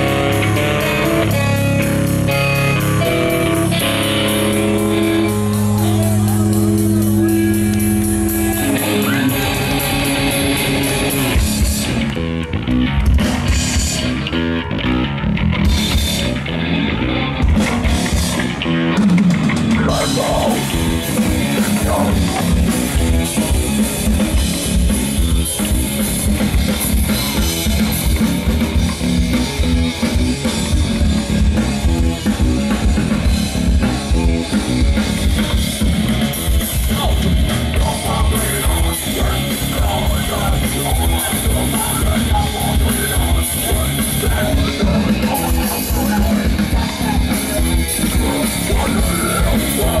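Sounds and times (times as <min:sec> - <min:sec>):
drum kit hammering fast rhythm: 0:00.0 - 0:12.1, 0:13.1 - 0:14.2, 0:17.4 - 0:50.0
bass guitar: 0:00.0 - 0:50.0
distorted electric guitar: 0:00.0 - 0:50.0.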